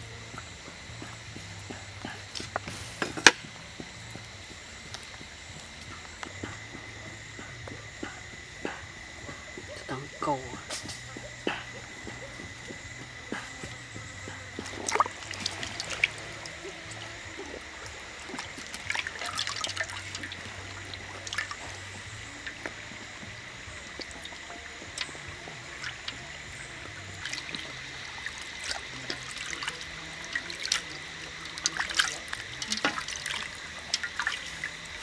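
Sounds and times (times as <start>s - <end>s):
water splashing and dripping: 0.0s - 35.0s.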